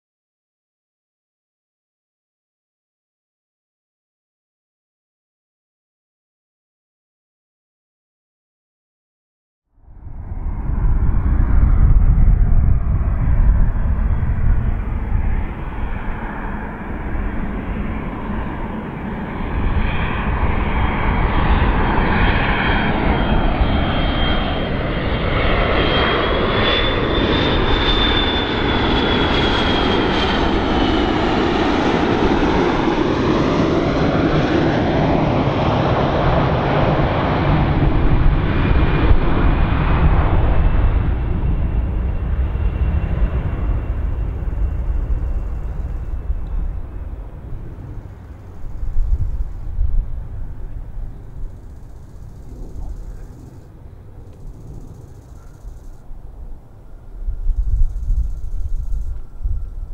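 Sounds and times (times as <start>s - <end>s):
airplane engine roar: 9.7s - 59.9s
high jet whine: 9.8s - 59.9s.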